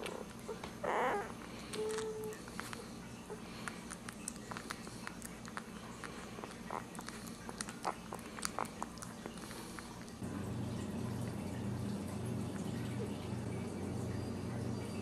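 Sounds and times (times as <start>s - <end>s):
low steady hum: 0.0s - 15.0s
puppies suckling: 0.0s - 15.0s.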